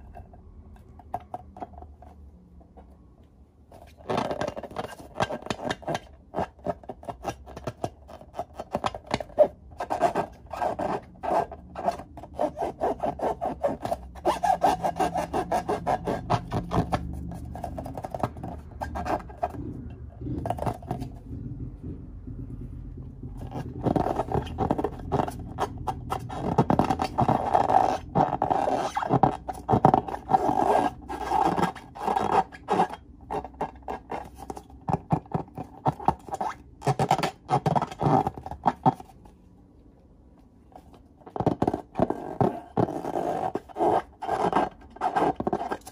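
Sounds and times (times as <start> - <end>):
fingers rubbing balloons: 3.7 - 39.3, 41.2 - 45.9.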